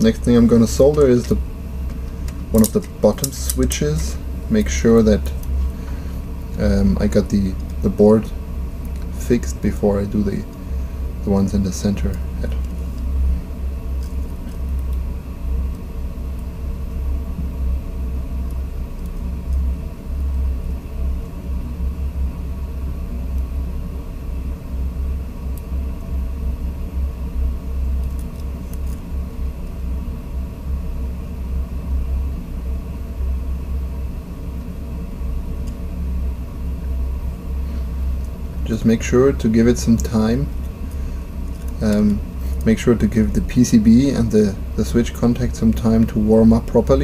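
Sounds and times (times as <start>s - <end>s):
faint hum: 0.0s - 47.0s.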